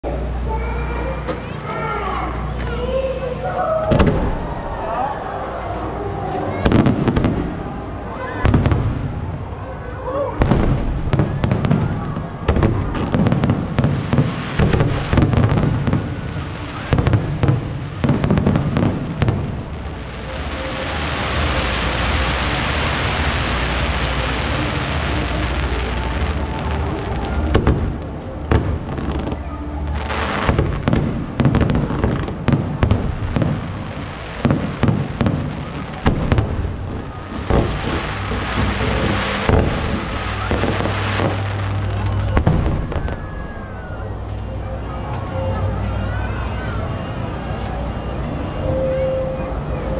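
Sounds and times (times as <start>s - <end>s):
dense hissing crackle: 0.1s - 48.3s
fireworks booming: 1.1s - 5.3s, 6.2s - 49.3s.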